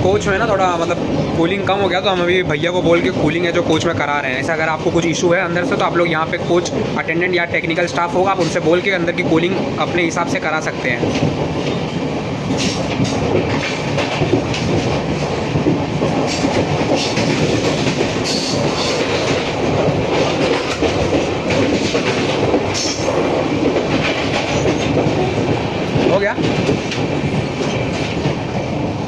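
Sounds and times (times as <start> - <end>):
train coach rumble: 0.0 - 29.0
wheels clicking over rail joints: 0.8 - 29.0.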